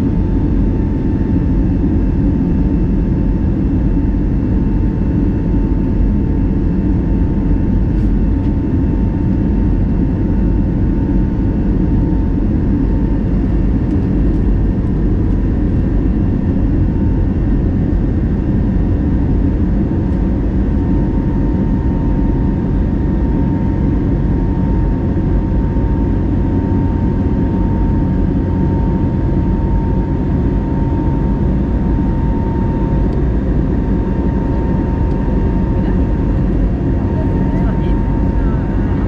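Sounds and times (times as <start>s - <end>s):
aircraft cabin engine and airflow rush: 0.0s - 39.0s.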